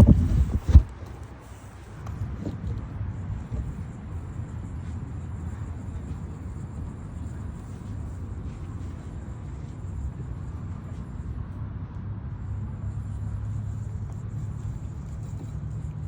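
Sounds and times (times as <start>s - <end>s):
outdoor low rumble: 0.0s - 16.0s.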